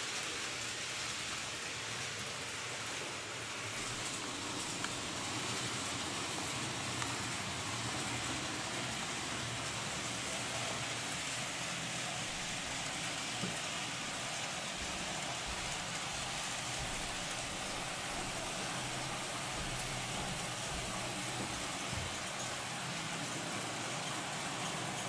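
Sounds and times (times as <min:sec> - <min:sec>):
model train running hiss: 0:00.0 - 0:25.0.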